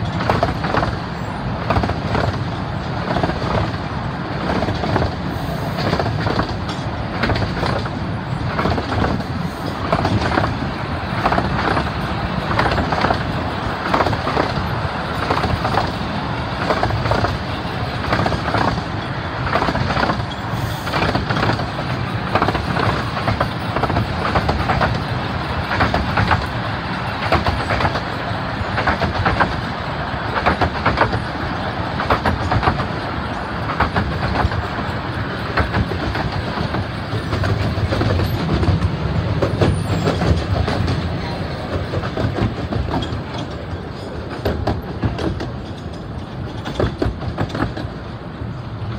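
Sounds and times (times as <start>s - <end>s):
train wheels clattering over rails: 0.0s - 48.9s.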